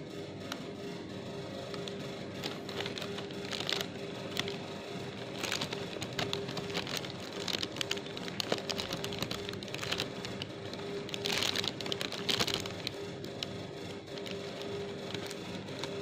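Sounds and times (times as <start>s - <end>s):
plastic bag crinkling: 1.7s - 16.0s.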